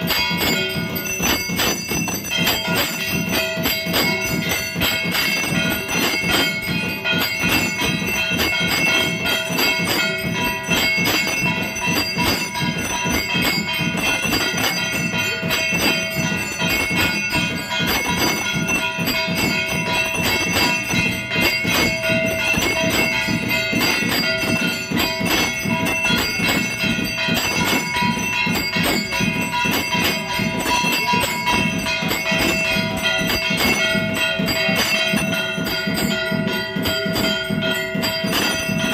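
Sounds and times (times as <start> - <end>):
temple bells clanging: 0.0 - 38.9.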